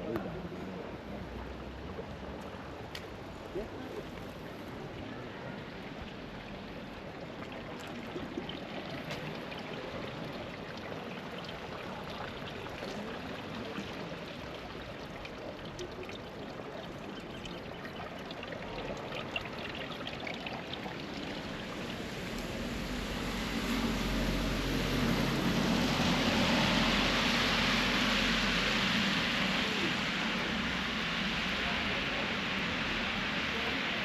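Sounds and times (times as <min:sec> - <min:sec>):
small water splashes: 0:02.2 - 0:34.0
river water rushing: 0:05.6 - 0:34.0.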